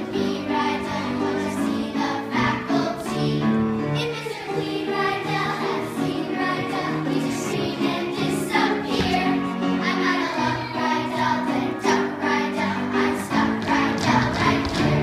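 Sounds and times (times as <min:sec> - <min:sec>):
accompanying music: 0:00.0 - 0:15.0
children singing: 0:00.0 - 0:15.0.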